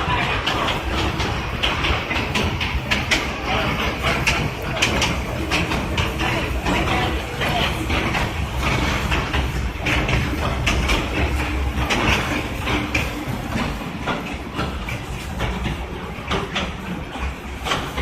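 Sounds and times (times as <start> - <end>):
train cars rattling on rails: 0.0 - 18.0.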